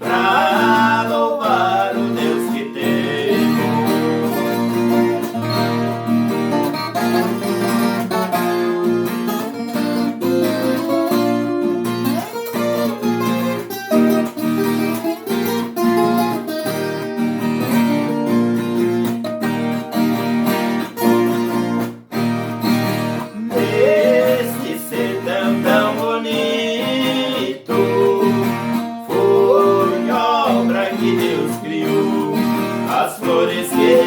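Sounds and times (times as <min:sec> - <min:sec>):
plucked folk guitar: 0:00.0 - 0:34.0.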